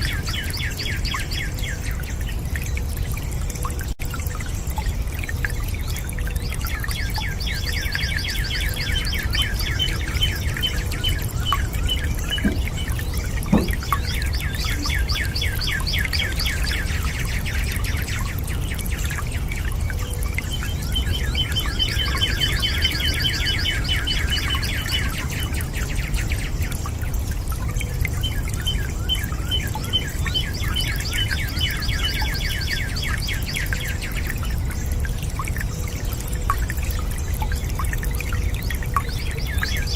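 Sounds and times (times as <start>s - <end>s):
running water: 0.0s - 39.9s
songbird singing trills: 4.7s - 39.9s.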